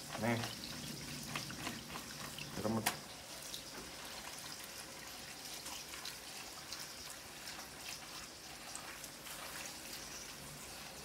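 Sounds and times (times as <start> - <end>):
faint trickle of water: 0.0 - 11.0
water drips and splashes: 0.0 - 11.0.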